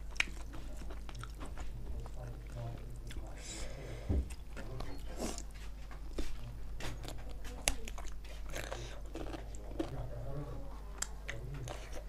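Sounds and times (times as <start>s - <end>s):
chewing with mouth clicks and smacks: 0.0s - 3.4s, 4.2s - 10.2s, 10.9s - 12.0s.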